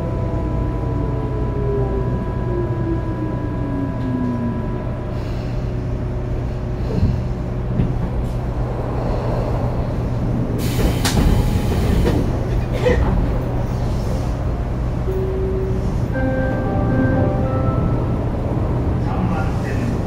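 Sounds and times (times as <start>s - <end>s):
train wheels rumbling on track: 2.9s - 20.0s.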